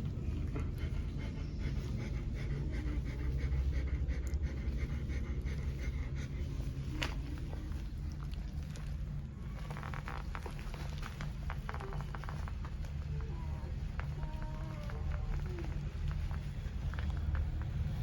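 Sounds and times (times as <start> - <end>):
low steady rumble: 0.0 - 18.0
puppy breathing: 0.0 - 18.0.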